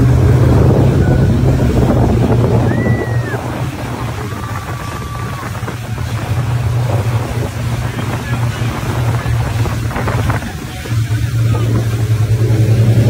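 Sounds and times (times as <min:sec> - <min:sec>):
boat wake churning: 0:00.0 - 0:13.0
motorboat engine running: 0:00.0 - 0:13.0
wind buffeting microphone: 0:00.0 - 0:13.0.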